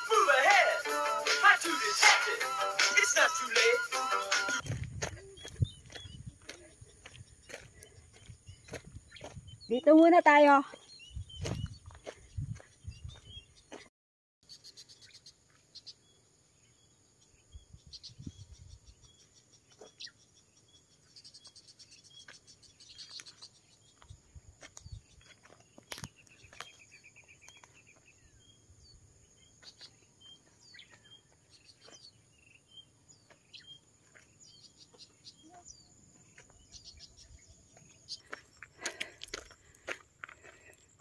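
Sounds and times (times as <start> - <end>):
bird chirps: 4.6 - 39.7.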